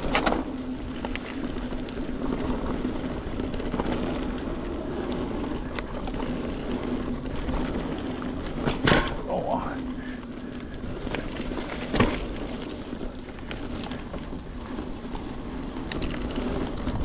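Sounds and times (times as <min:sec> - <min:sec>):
bike clicking and rattling: 0:00.0 - 0:17.0
bike tyres on dirt: 0:00.0 - 0:17.0.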